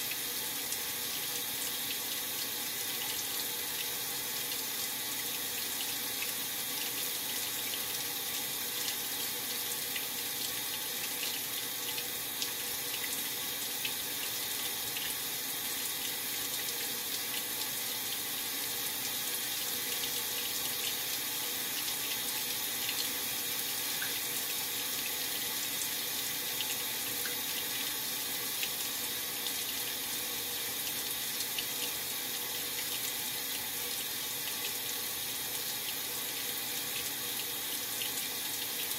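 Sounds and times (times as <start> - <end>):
water running into washing machine: 0.0 - 38.9.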